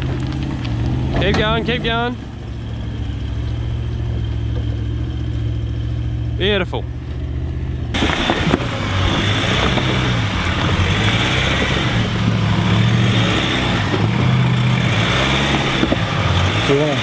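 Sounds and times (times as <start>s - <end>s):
engine working under load: 0.0s - 17.0s
vehicle noisy rush: 0.0s - 17.0s.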